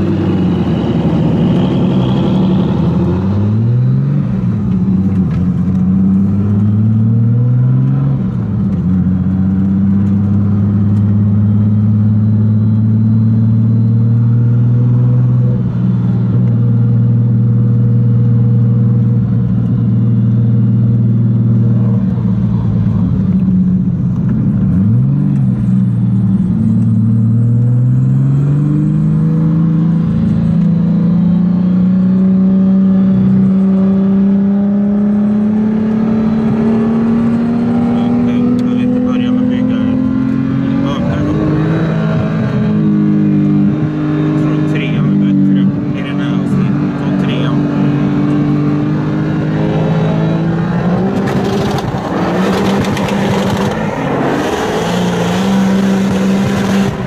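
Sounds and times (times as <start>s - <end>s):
car engine revving from inside: 0.0s - 22.1s, 24.7s - 57.0s.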